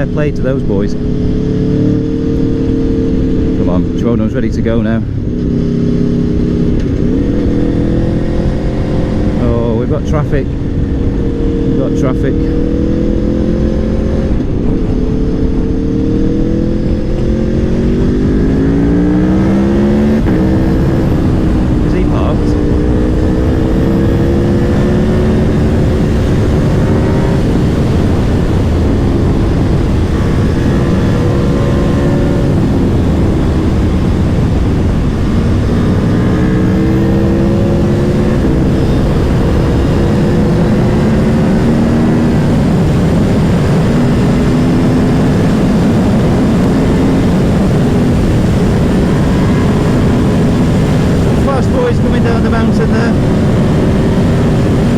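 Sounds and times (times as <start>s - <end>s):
motorcycle engine accelerating: 0.0s - 54.9s
wind rush: 0.0s - 54.9s.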